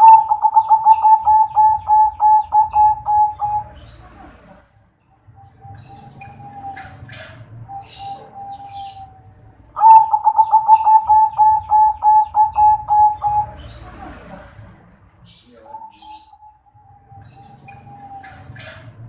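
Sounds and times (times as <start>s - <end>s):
dove cooing: 0.0s - 4.8s, 5.4s - 14.7s, 15.3s - 19.0s
small birds chirping: 0.0s - 19.0s.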